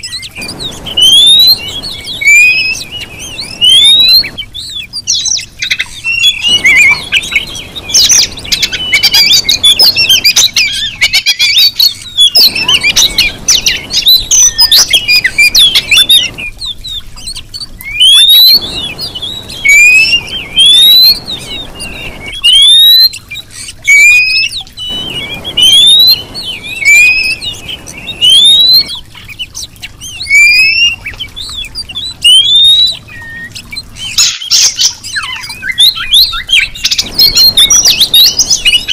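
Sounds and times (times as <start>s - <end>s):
bird scratchy chattering: 0.0s - 32.8s, 33.6s - 38.9s
bird rising whistles: 0.0s - 38.9s.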